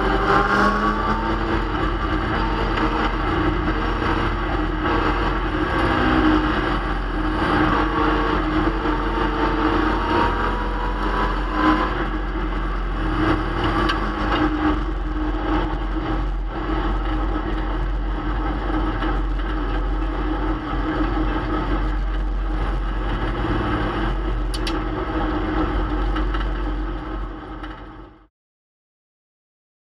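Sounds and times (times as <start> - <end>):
race car engine running: 0.0 - 28.3.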